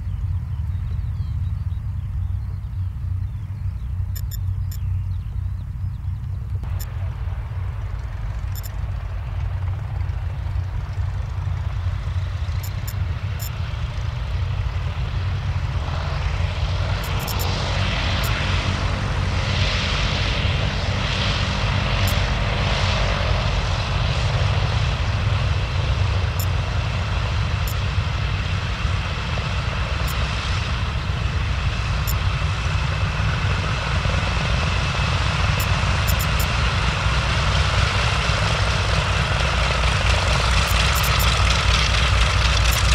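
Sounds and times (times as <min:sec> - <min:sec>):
propeller airliner engines running: 0:00.0 - 0:42.9.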